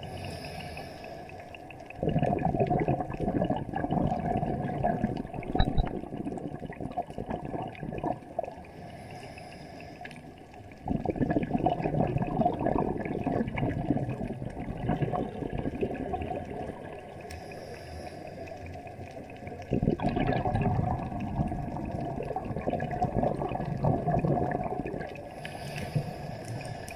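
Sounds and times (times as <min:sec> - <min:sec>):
underwater bubbling and rushing: 0:00.0 - 0:26.9.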